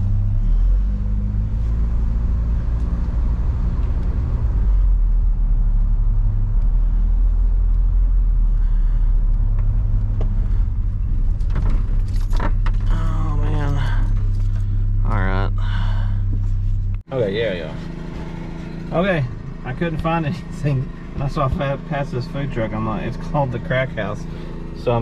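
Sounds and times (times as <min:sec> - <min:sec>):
car engine and road rumble: 0:00.0 - 0:25.0.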